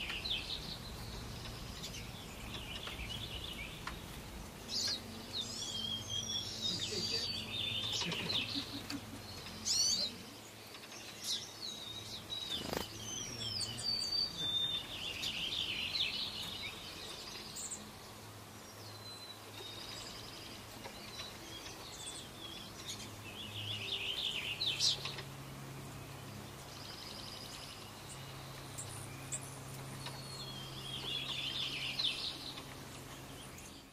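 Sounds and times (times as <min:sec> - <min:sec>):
songbirds chirping and singing: 0:00.0 - 0:33.9.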